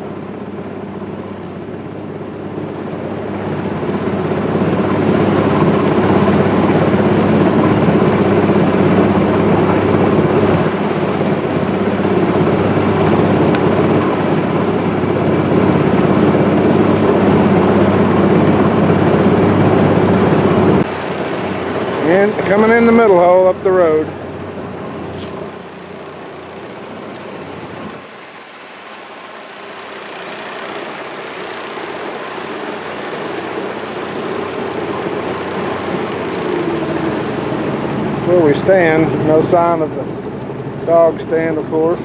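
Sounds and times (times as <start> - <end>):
boat motor running: 0.0 - 42.0
rushing water: 2.0 - 42.0
wind noise: 2.6 - 22.8, 24.1 - 40.9.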